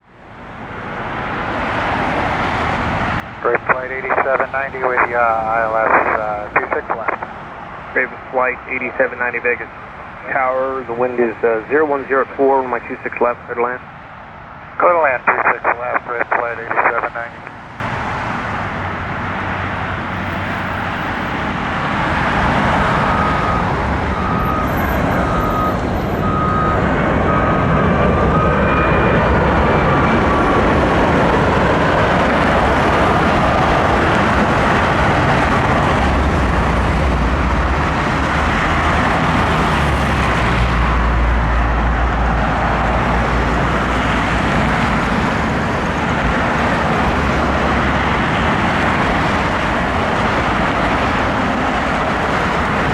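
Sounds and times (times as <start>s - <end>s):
jet airliner landing: 0.1s - 52.9s.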